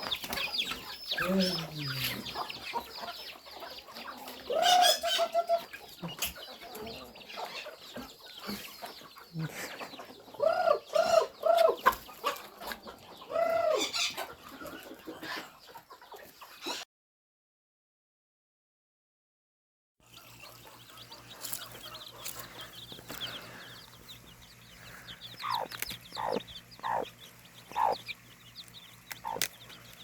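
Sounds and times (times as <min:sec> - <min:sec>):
chickens clucking: 0:00.0 - 0:16.8, 0:20.0 - 0:30.0.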